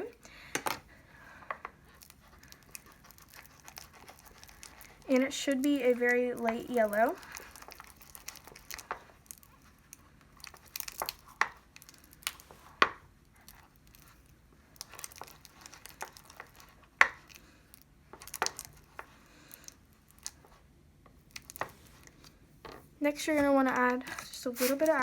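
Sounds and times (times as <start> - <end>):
slime paste being stirred: 0.0 - 25.0.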